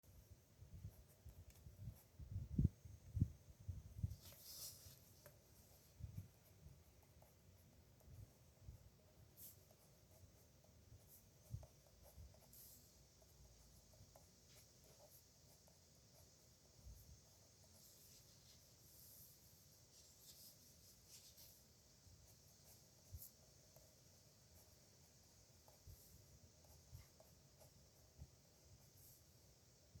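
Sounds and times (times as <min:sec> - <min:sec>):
pen scratching on paper: 0:00.8 - 0:02.3, 0:04.0 - 0:30.0.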